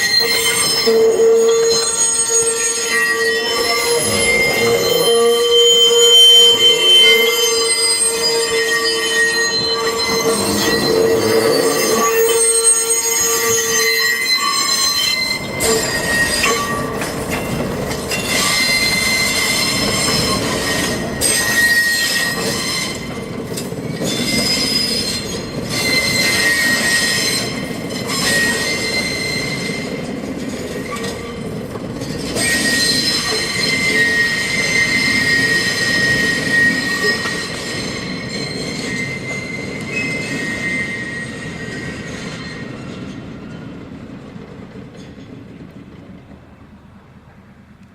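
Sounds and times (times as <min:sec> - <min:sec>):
train wheels squealing on rails: 0:00.0 - 0:47.6
rumble of moving subway cars: 0:00.0 - 0:47.9.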